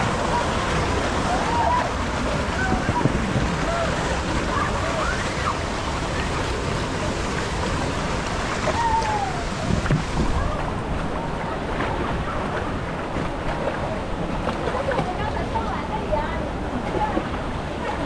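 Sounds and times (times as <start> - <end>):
water rushing along tube slide: 0.0 - 18.0.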